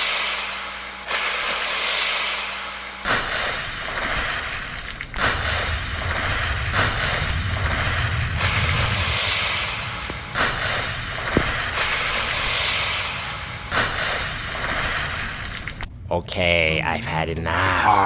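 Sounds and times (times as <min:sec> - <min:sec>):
water spraying in bursts: 0:00.0 - 0:15.9.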